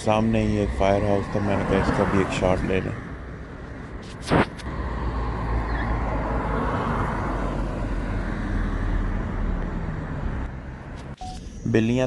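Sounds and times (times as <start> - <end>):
low rumble of passing vehicles: 0.0 - 11.2.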